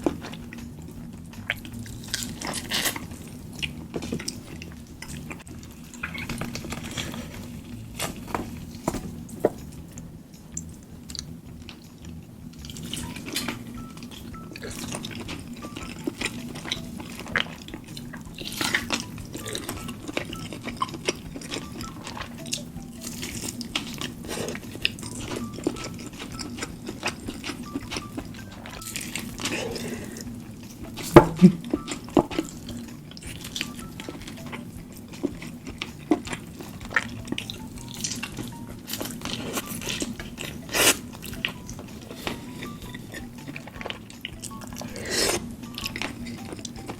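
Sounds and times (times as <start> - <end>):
wet chewing and smacking: 0.0 - 46.9.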